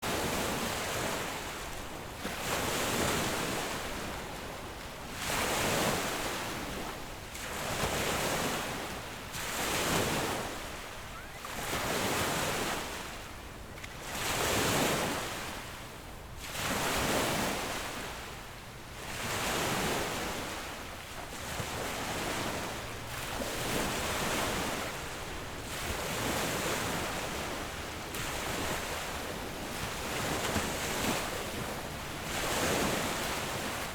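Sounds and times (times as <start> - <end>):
sea waves breaking on beach: 0.1 - 33.9.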